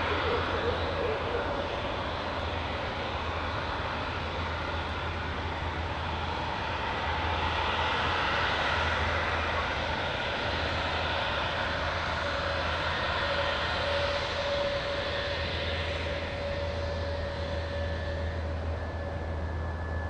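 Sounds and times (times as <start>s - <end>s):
jet engines humming with whine: 0.0s - 20.0s.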